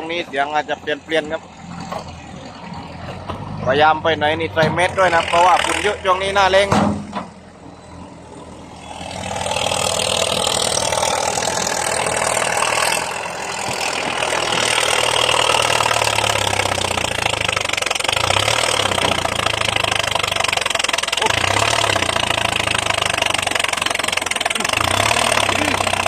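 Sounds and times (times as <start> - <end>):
bulldozer diesel engine: 0.0 - 26.0.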